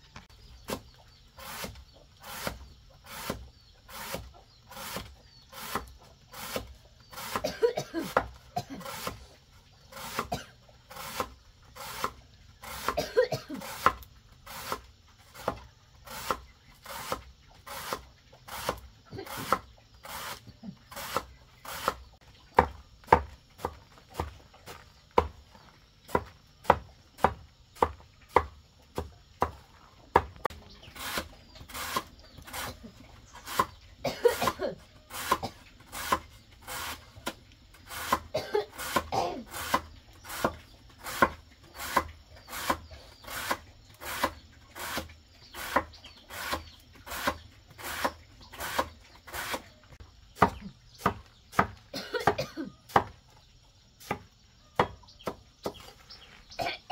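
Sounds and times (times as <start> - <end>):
blade chopping on wood: 0.6 - 9.3, 9.9 - 25.4, 26.0 - 32.8, 33.4 - 49.6, 50.3 - 53.2, 54.0 - 55.9.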